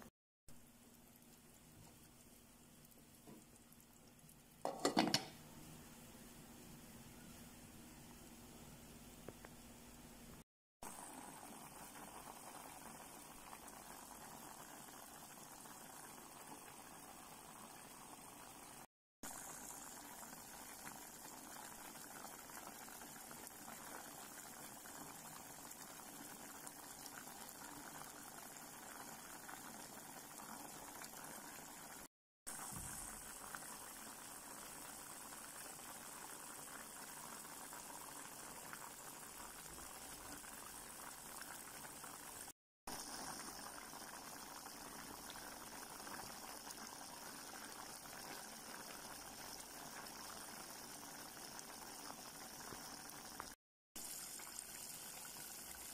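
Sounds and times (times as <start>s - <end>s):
pot boiling with faint bubbling: 0.0s - 55.9s.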